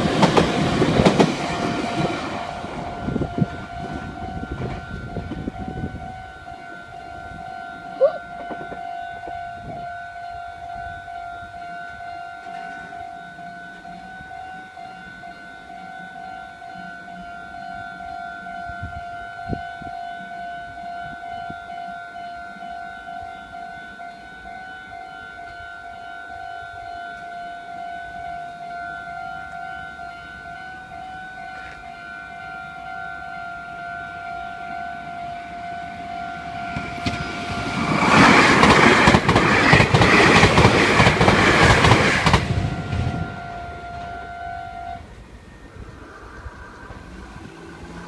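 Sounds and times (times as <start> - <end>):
train passing: 0.0 - 48.0.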